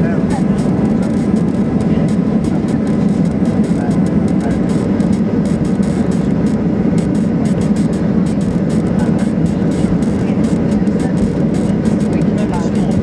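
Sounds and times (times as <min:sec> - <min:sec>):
airplane engine and cabin noise: 0:00.0 - 0:13.0.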